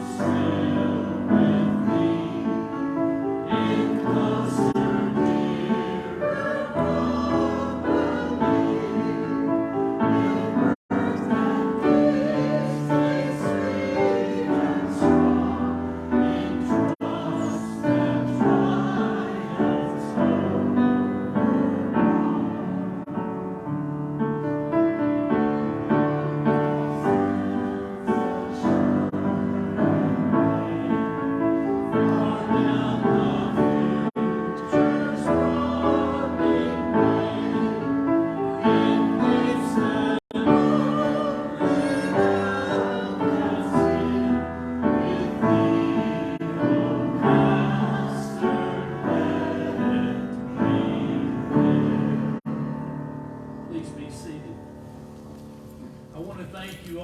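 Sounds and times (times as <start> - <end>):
piano accompaniment: 0.0 - 57.0
voices singing a hymn: 0.0 - 57.0.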